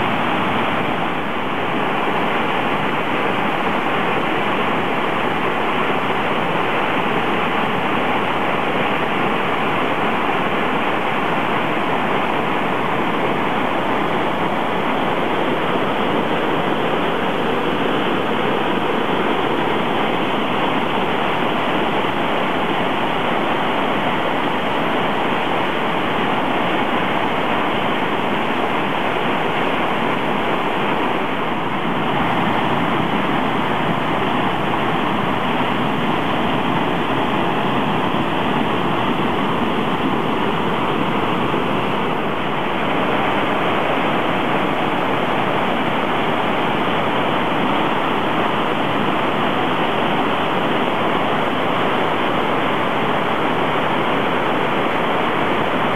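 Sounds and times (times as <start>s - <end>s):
stream roaring over rocks: 0.0s - 55.9s.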